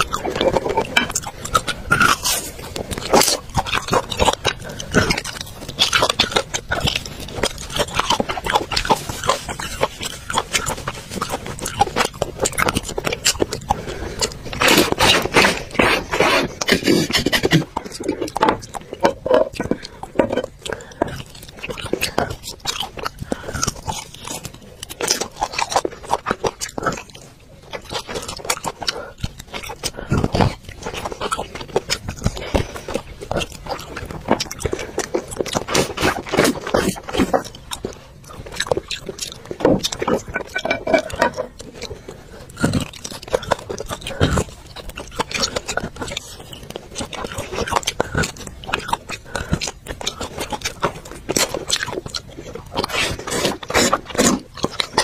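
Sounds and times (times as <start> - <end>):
deep wet mouth sound: 0.0 - 55.0
wet chewing and smacking: 0.0 - 55.0.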